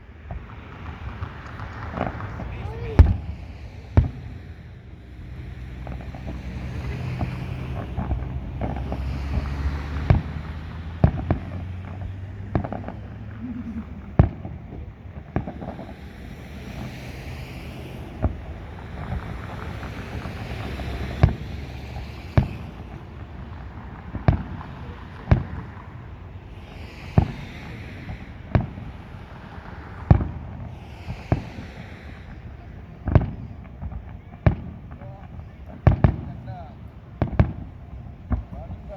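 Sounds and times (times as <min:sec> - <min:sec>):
fireworks bangs: 0:00.0 - 0:38.9
fireworks hiss: 0:00.0 - 0:38.9.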